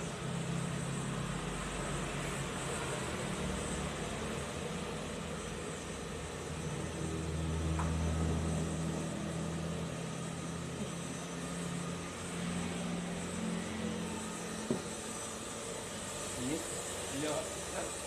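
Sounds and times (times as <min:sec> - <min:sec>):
street traffic engine hum: 0:00.0 - 0:18.0.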